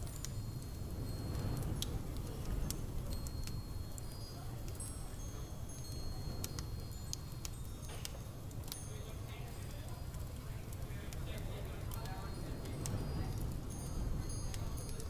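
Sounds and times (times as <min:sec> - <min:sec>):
high tinkling tones: 0:00.0 - 0:02.1, 0:02.8 - 0:10.1, 0:12.1 - 0:15.0.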